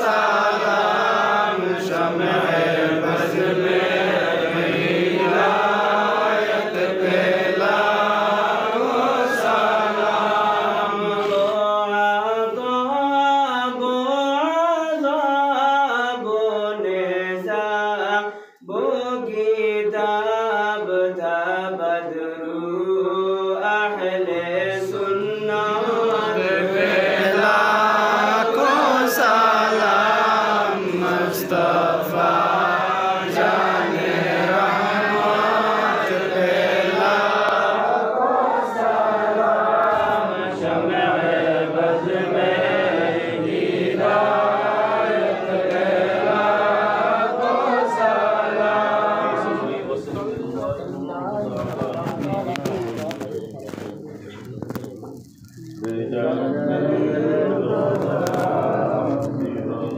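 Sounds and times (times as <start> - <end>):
person chanting a slow melody: 0.0 - 49.6, 54.6 - 59.9.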